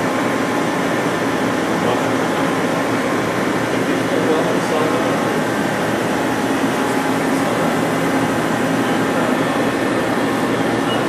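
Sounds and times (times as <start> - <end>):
lathe mechanical hum: 0.0 - 11.0.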